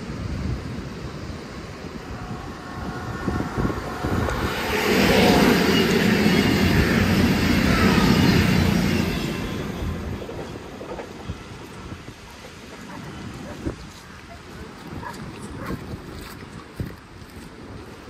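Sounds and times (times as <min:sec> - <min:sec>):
diesel train passing: 0:00.0 - 0:14.5.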